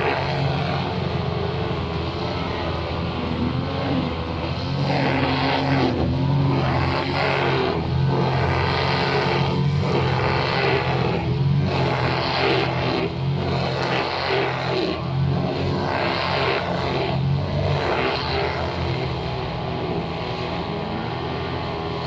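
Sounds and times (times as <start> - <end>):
brushcutter engine running: 0.0 - 22.0.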